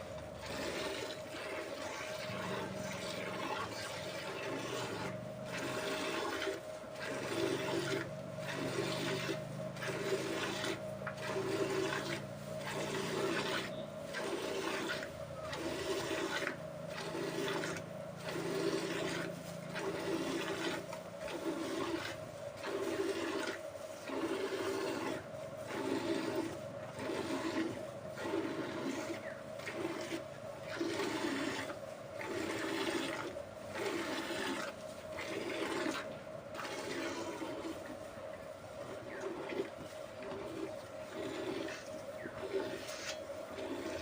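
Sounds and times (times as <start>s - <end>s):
milk jets hissing into vessel: 0.0s - 44.0s.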